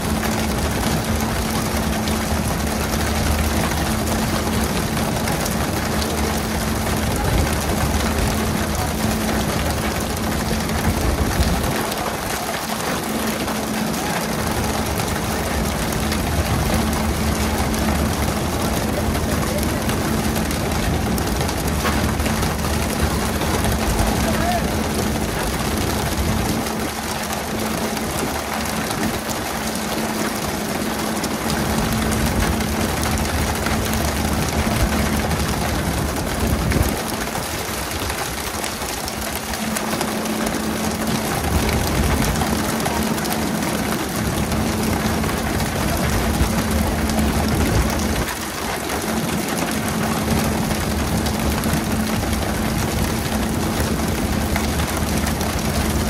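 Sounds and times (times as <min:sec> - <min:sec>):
boat engine humming: 0:00.0 - 0:56.0
water spraying along hull: 0:00.0 - 0:56.0.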